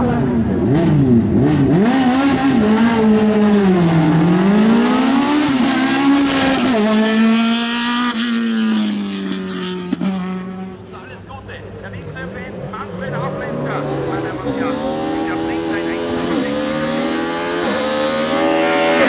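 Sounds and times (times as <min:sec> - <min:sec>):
race car engine accelerating: 0:00.0 - 0:11.0, 0:11.8 - 0:19.0.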